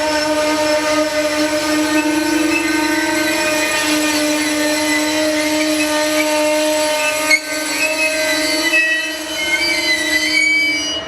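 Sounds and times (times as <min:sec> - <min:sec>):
passing train whine: 0:00.0 - 0:11.0.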